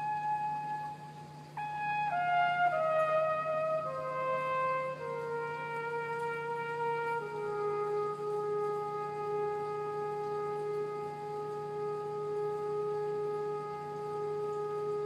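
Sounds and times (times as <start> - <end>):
held note on wind instrument: 0.0 - 15.0.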